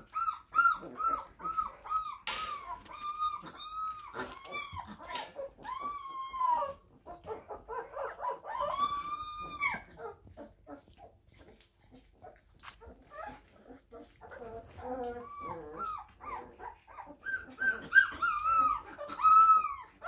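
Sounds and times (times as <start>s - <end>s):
puppies whining: 0.0s - 20.0s.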